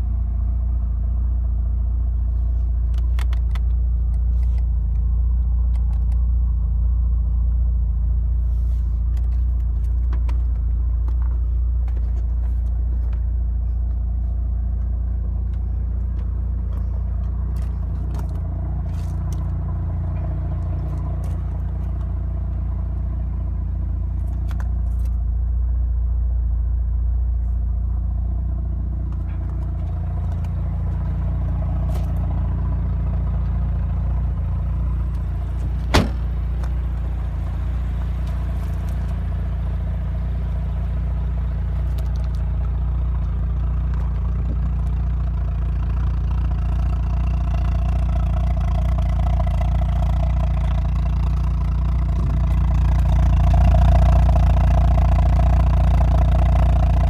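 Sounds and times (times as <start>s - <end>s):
rotary engine idling: 0.0s - 57.0s.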